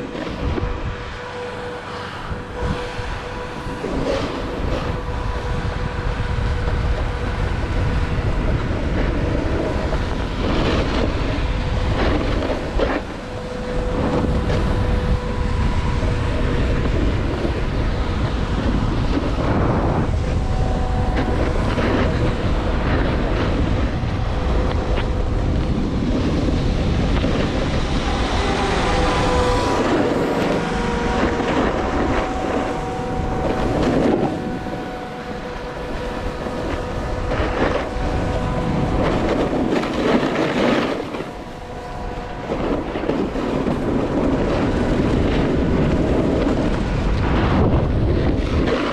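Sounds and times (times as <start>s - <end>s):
wind on microphone: 0.0s - 48.9s.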